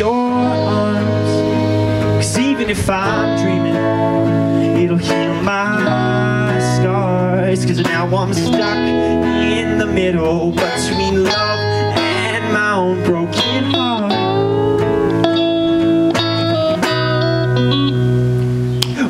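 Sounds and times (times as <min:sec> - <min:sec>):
guitar music: 0:00.0 - 0:19.0.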